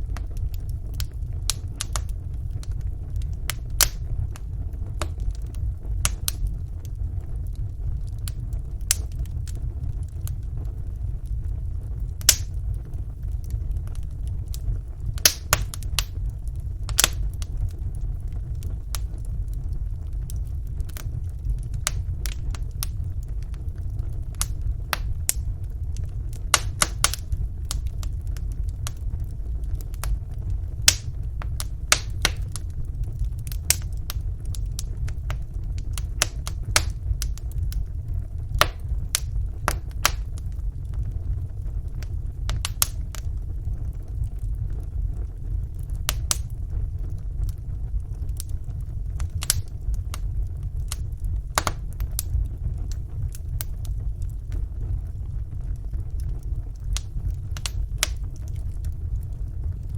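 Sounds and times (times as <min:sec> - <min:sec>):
flames rumbling: 0:00.0 - 0:59.9
logs crackling and popping: 0:00.0 - 0:59.9.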